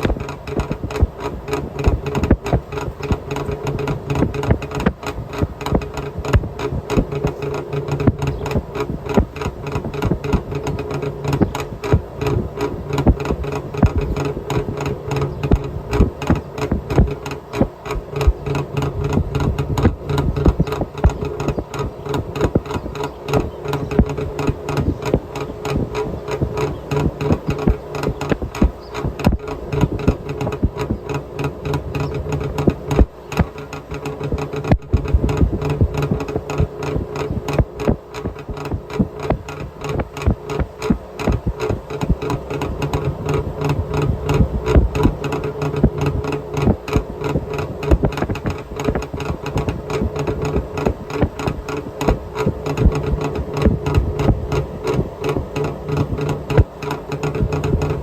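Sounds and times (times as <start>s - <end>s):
two-stroke engine exhaust pulses: 0.0s - 58.0s.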